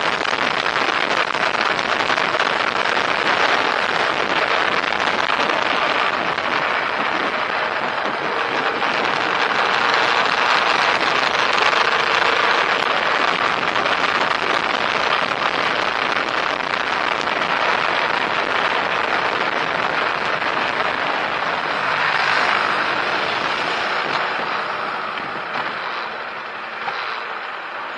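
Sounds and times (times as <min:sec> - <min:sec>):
road and tyre noise: 0:00.0 - 0:27.9
wind: 0:00.0 - 0:27.9.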